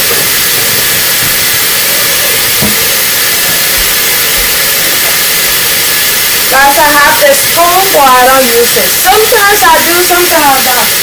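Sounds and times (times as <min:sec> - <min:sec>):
tap water running into container: 0:00.0 - 0:11.0.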